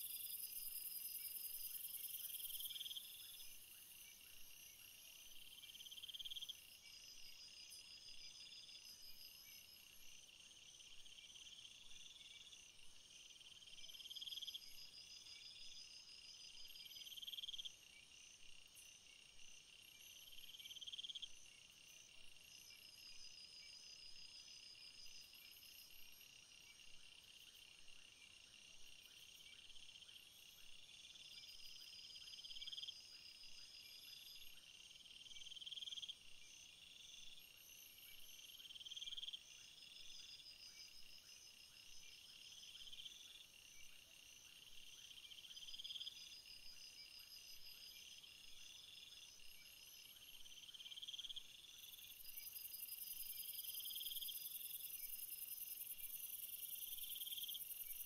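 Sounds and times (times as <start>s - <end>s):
crickets and insects chirping: 0.0s - 58.0s.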